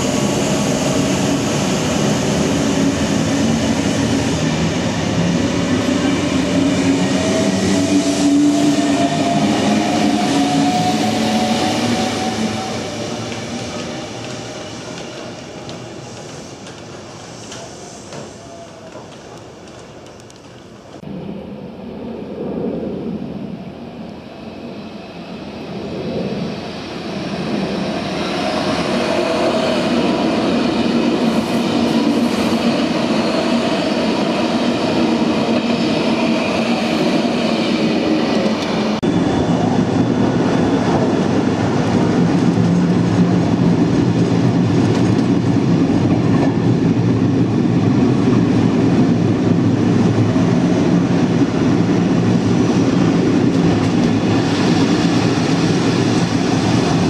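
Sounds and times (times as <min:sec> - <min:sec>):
electric train running past: 0:00.0 - 0:57.0.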